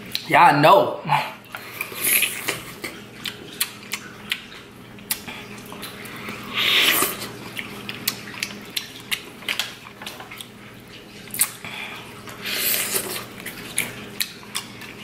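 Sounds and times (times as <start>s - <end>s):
wet chewing clicks and smacks: 0.0s - 0.3s, 2.4s - 6.4s, 7.0s - 15.0s.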